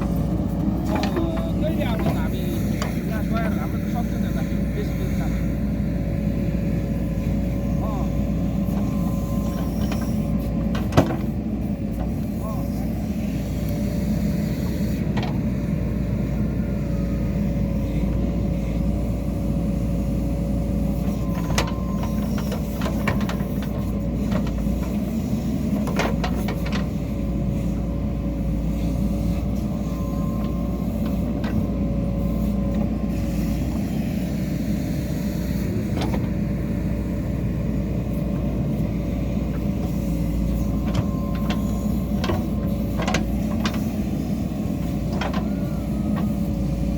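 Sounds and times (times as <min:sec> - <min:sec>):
diesel engine rumbling: 0:00.0 - 0:46.9.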